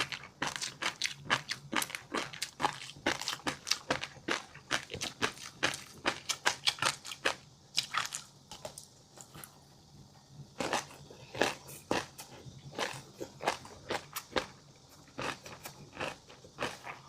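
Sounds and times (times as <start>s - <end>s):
crunchy eating sounds: 0.0s - 9.6s, 10.5s - 17.0s.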